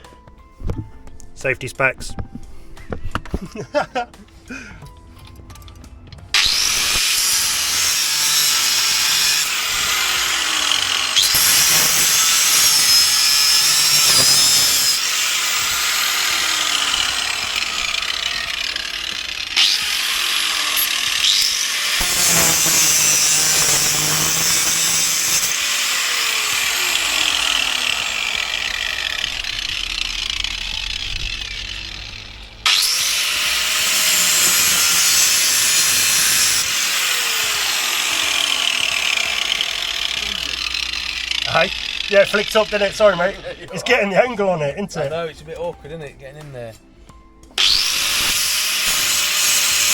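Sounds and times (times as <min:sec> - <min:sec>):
angle grinder cutting steel: 0:06.3 - 0:44.1, 0:47.6 - 0:49.9.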